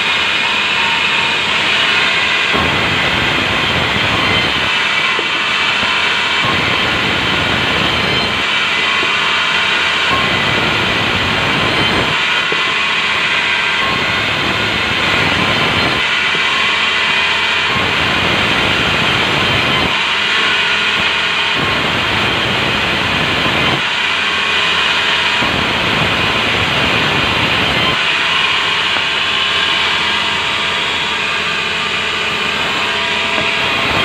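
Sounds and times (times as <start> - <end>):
band saw cutting timber: 0.0 - 34.0.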